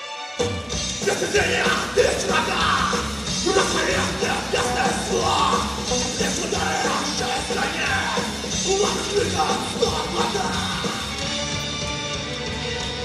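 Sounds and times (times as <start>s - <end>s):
heavy metal band playing: 0.4s - 13.0s.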